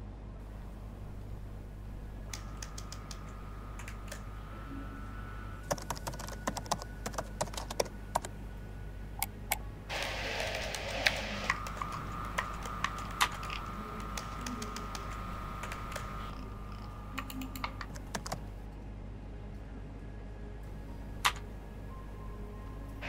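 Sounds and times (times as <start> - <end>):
faint steady tone: 0.0 - 23.0
low steady hum: 0.0 - 23.0.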